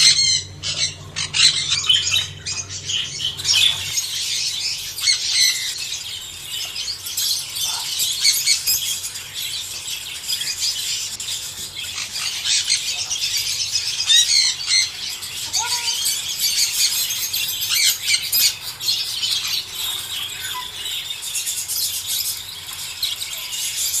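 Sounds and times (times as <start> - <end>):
budgerigars chattering: 0.0 - 9.7, 11.8 - 24.0.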